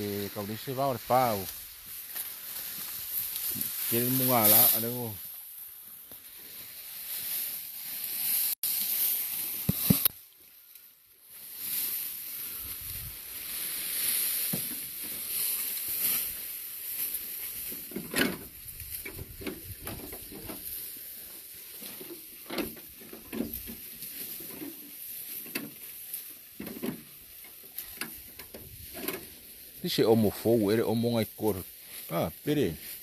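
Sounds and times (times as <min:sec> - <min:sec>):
grass rustling: 0:00.0 - 0:33.0
grass being torn: 0:01.1 - 0:33.0.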